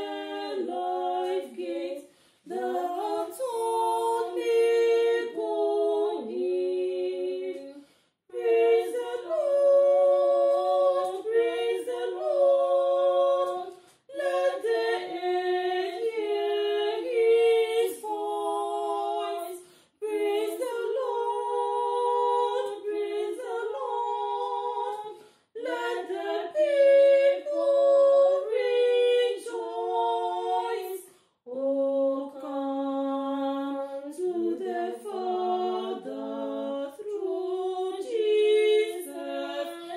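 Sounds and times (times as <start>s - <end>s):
women singing a hymn in harmony: 0.0s - 39.9s.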